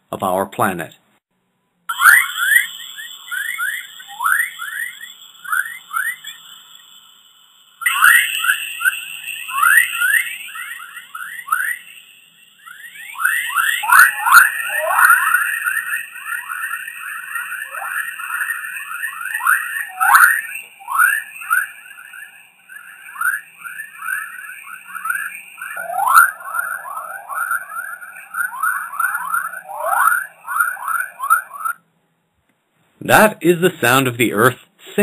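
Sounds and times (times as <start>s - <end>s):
quickly rising chirps: 1.9s - 31.8s
steady high hiss: 1.9s - 31.8s, 32.8s - 35.0s.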